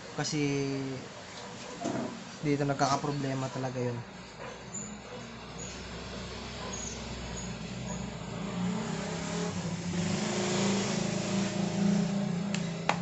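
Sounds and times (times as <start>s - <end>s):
vehicle engine humming: 2.2s - 13.0s.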